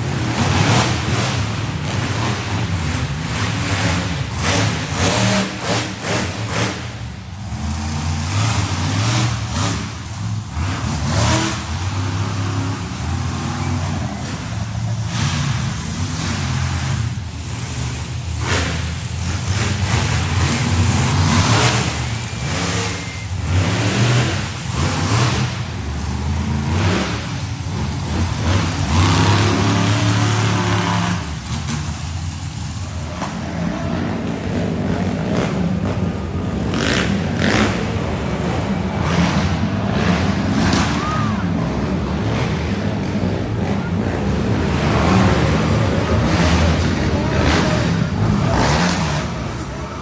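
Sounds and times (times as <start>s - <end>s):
truck engines revving: 0.0s - 50.0s.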